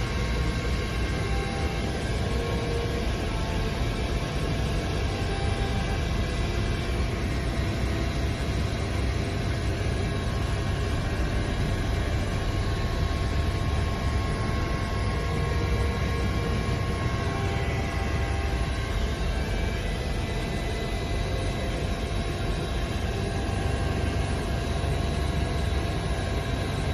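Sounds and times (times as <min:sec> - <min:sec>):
aircraft engine drone: 0:00.0 - 0:26.9
faint steady whining tones: 0:00.0 - 0:26.9.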